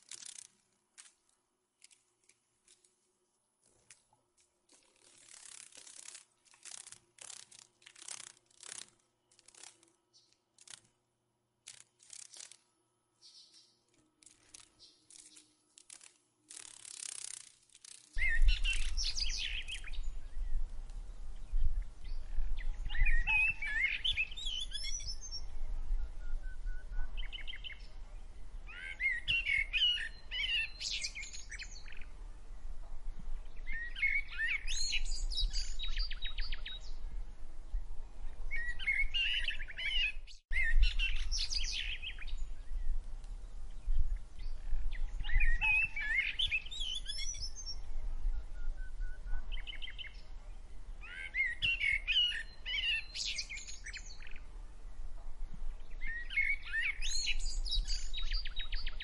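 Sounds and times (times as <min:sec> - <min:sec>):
songbirds chirping: 0:00.1 - 0:59.0.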